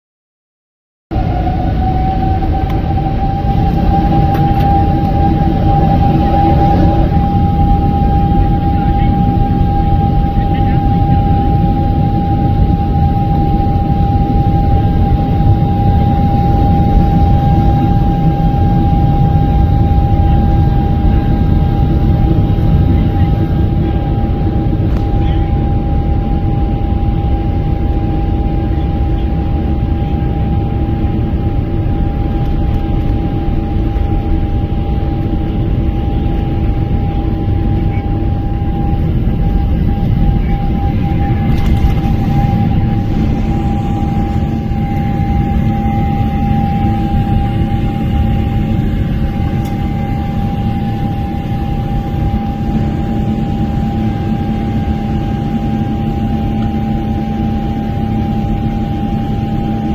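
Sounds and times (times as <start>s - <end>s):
high engine tone: 1.1s - 59.8s
jet engines rumbling: 1.1s - 59.9s.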